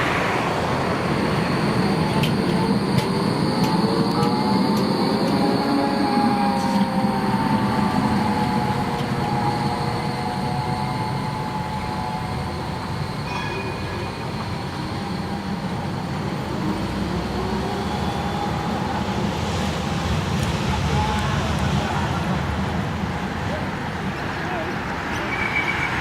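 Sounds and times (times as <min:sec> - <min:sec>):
tram wheels squealing: 0:00.0 - 0:22.4, 0:24.1 - 0:26.0
tram rumble: 0:00.0 - 0:26.0.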